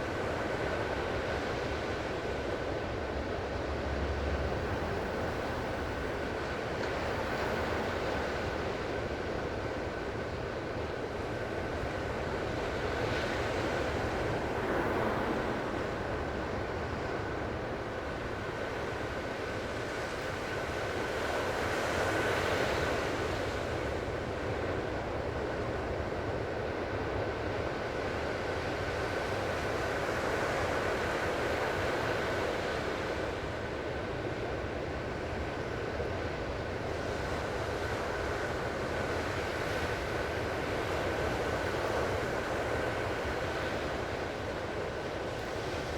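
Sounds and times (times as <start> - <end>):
ocean surf washing ashore: 0.0 - 45.9.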